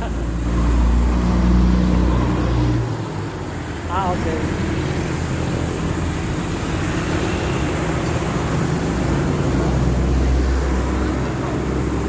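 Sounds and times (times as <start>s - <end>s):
street traffic: 0.0s - 12.0s
vehicle engine rumbling: 0.0s - 12.0s.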